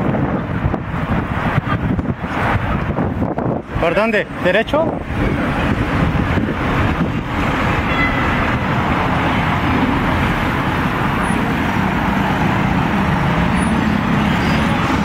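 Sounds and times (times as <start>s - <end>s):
car engines running: 0.0s - 15.0s
tyres on the road: 0.0s - 15.0s.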